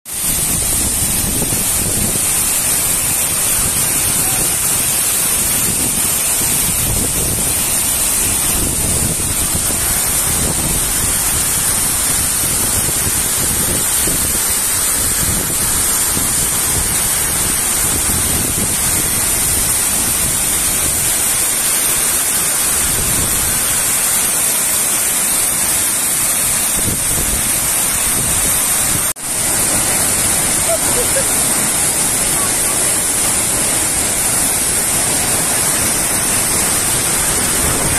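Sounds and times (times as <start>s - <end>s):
waterfall rushing: 0.1s - 37.9s.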